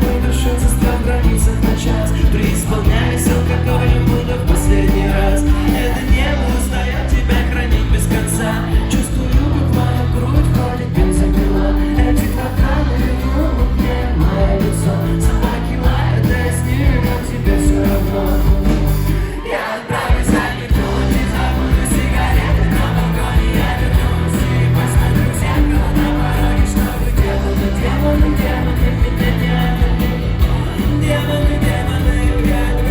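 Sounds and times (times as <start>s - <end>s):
live rock band playing: 0.0s - 32.9s
person singing: 0.0s - 32.9s.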